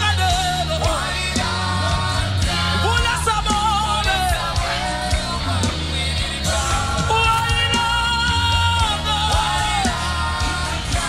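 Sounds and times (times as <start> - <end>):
backing singers: 0.0 - 11.0
band with heavy bass: 0.0 - 11.0.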